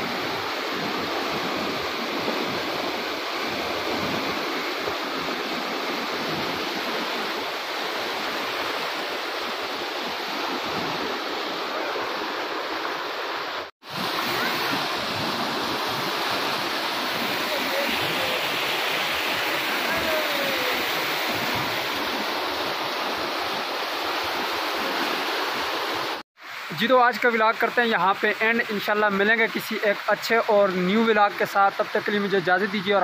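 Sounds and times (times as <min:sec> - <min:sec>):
flooded stream rushing: 0:00.0 - 0:33.0.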